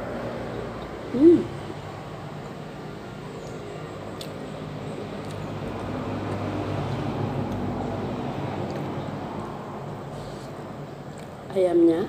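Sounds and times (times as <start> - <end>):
vehicle passing by: 0.0 - 11.3.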